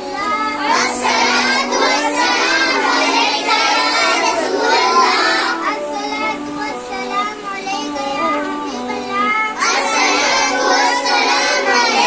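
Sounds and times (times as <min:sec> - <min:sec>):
boys chanting a prayer: 0:00.0 - 0:12.0.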